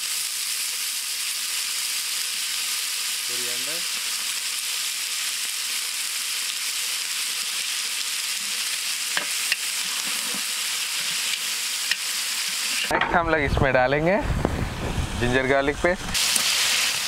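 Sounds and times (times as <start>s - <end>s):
hot oil sizzling in a pot: 0.0s - 12.9s, 14.9s - 17.0s.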